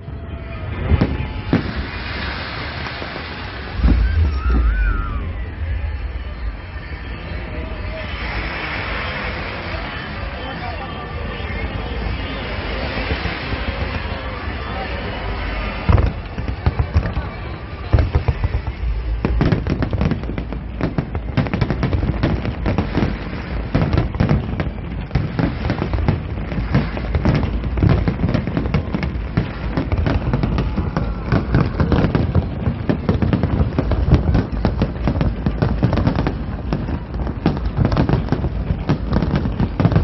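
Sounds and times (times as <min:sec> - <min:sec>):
fireworks bangs and pops: 0:00.4 - 0:10.6, 0:11.3 - 0:40.0.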